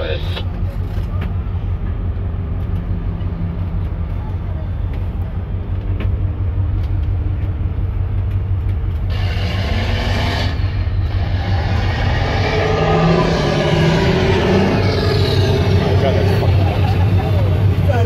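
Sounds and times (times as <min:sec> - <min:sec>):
boat engine under heavy throttle: 0:00.0 - 0:18.0
diesel engines low rumble: 0:00.0 - 0:18.0.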